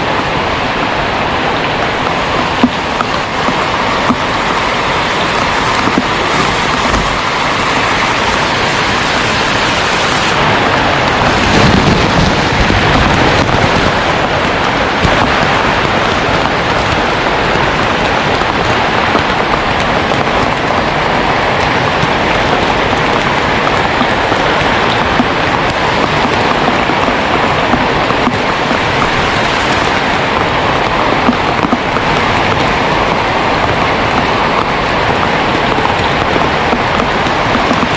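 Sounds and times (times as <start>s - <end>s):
heavy rain pouring: 0.0s - 37.9s.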